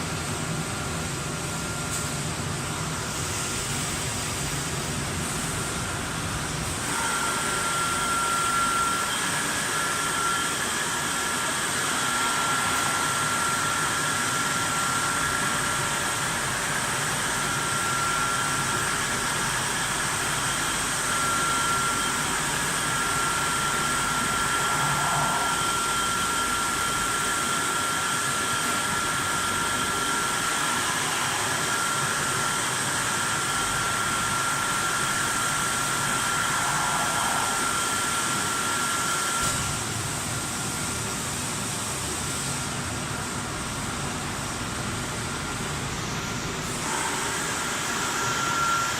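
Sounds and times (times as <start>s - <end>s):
motors and blowers hissing: 0.0s - 48.9s
thin high whine: 5.4s - 40.8s, 43.1s - 48.9s.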